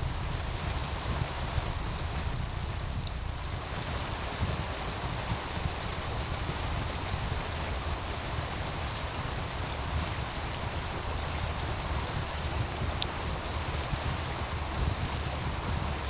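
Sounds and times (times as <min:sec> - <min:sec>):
low rumble: 0:00.0 - 0:16.0
stream running: 0:00.0 - 0:16.0
wood fire popping: 0:00.0 - 0:16.0.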